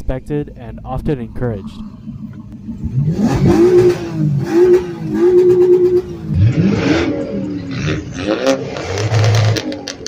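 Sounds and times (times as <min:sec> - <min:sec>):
car engine revving: 0:01.5 - 0:10.0.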